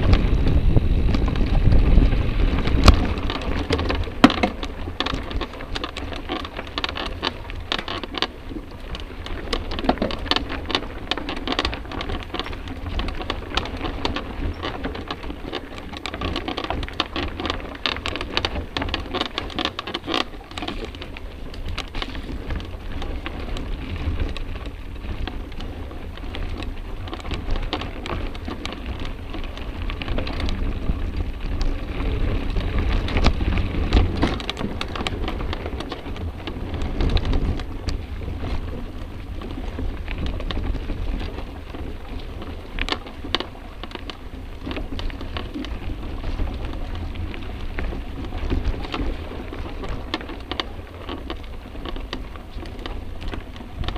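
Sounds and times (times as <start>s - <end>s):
bike rattling over rough trail: 0.0s - 53.9s
wind rumble on microphone: 0.0s - 53.9s.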